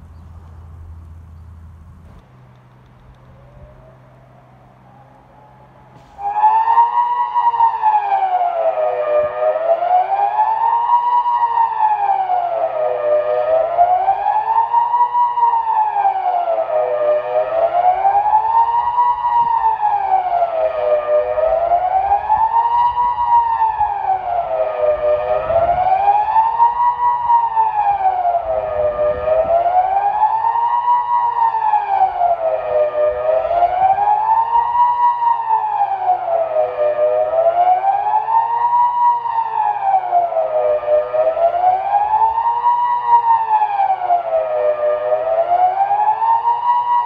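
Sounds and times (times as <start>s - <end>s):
siren wailing: 3.1s - 47.0s.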